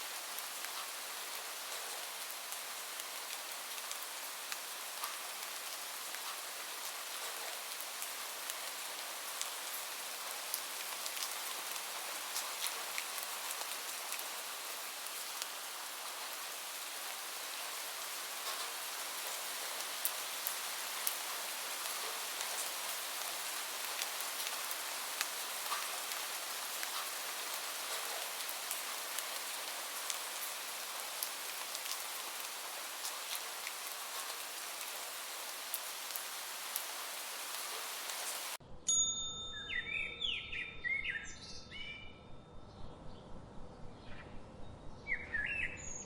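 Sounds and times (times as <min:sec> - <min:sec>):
rain falling: 0:00.0 - 0:38.6.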